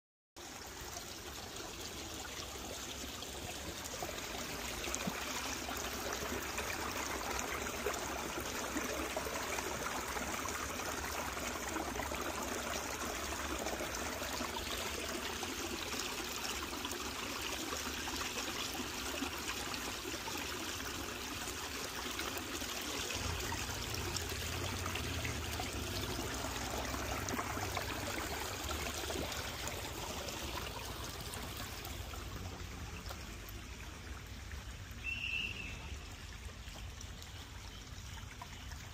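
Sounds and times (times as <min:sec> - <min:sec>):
creek water trickling over rocks: 0:00.4 - 0:38.9.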